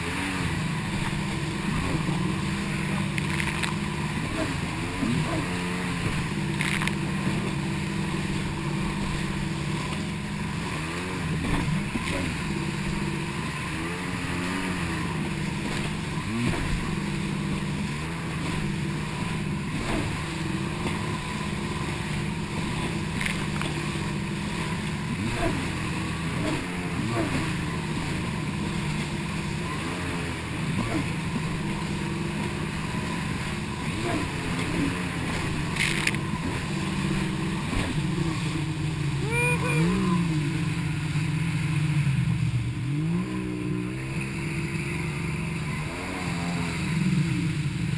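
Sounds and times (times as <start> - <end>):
jet ski engine running: 0.0 - 47.9
hull slapping on water: 0.4 - 39.2.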